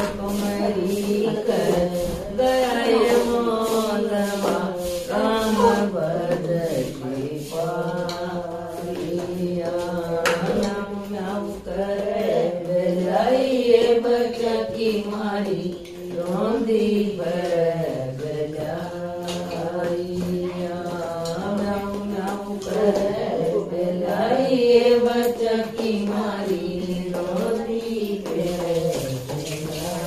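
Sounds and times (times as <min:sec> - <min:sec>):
women singing unaccompanied: 0:00.0 - 0:30.0.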